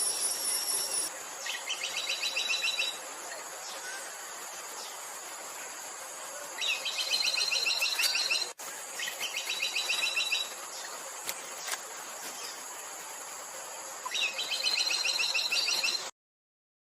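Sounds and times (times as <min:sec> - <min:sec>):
high insect hiss: 0:00.0 - 0:16.1.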